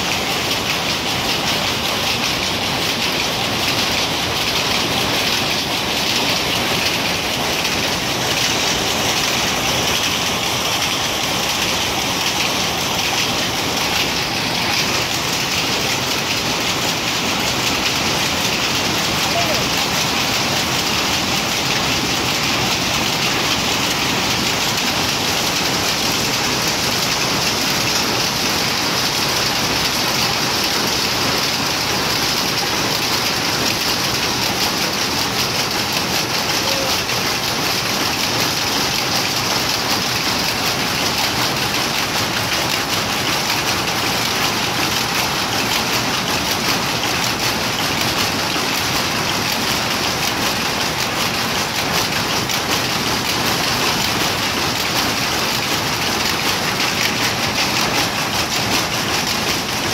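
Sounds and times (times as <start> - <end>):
power looms running: 0.0 - 59.9.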